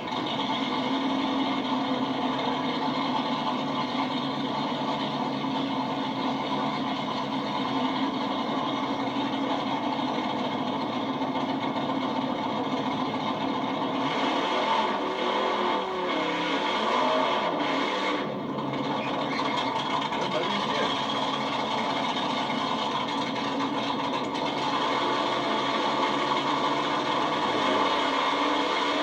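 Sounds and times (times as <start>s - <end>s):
racing engine idling: 0.0s - 29.0s.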